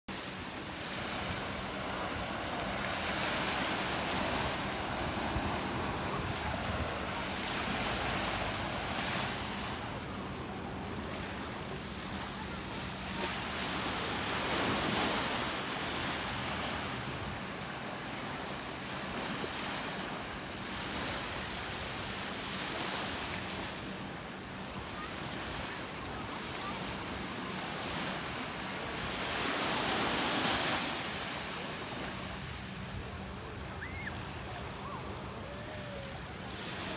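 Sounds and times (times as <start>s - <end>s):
ocean surf breaking: 0.1s - 21.7s, 26.5s - 36.9s.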